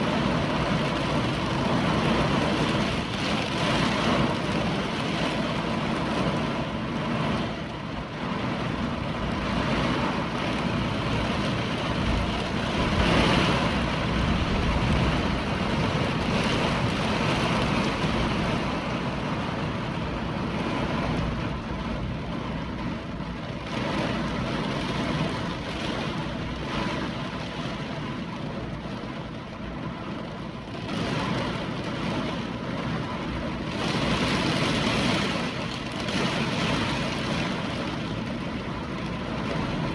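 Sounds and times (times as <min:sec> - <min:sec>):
hurricane wind and rain: 0:00.0 - 0:39.9.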